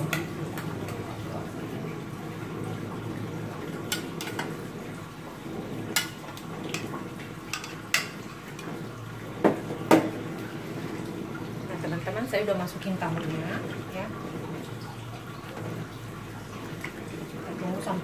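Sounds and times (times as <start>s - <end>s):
broth simmering with bubbling hiss: 0.0s - 18.0s.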